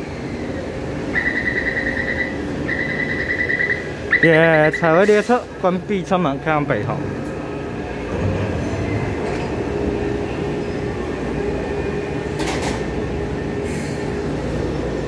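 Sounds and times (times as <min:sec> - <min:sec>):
train motors and wheels rumbling: 0:00.0 - 0:15.0.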